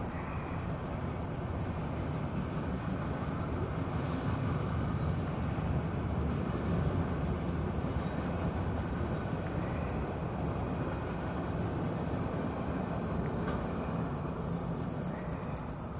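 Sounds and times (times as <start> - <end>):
freight train wheels rumbling: 0.0 - 15.9.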